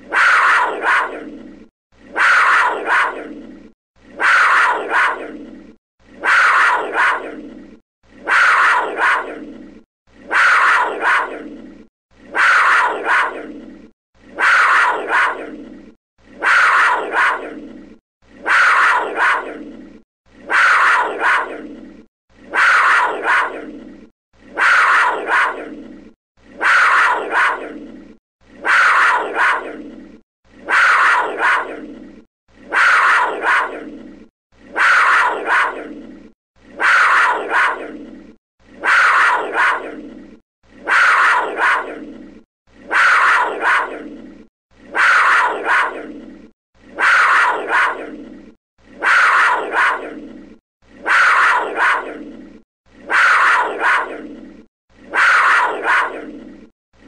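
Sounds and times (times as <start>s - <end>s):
big cat snarling growl: 0.0s - 56.7s.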